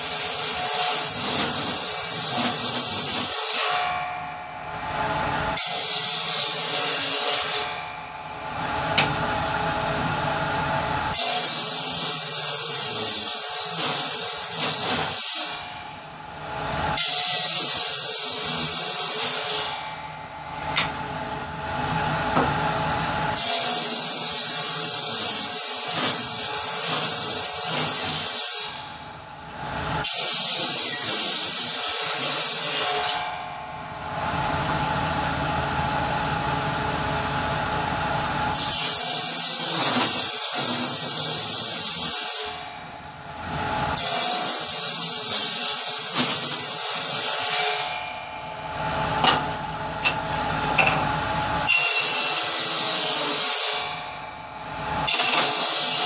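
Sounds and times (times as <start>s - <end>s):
power saw cutting wood: 0.0s - 37.4s, 38.0s - 56.0s.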